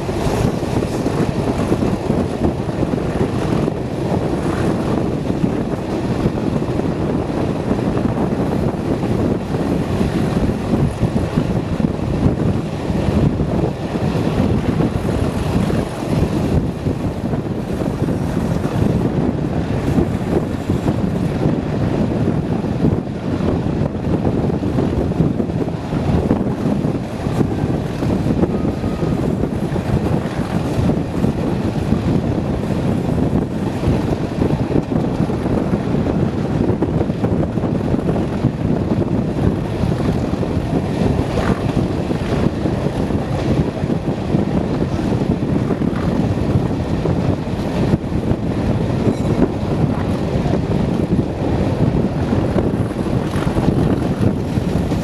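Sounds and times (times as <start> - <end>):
diesel locomotive rumble: 0.0 - 55.0
wheels on rails: 0.0 - 55.0
wind buffeting microphone: 0.0 - 55.0.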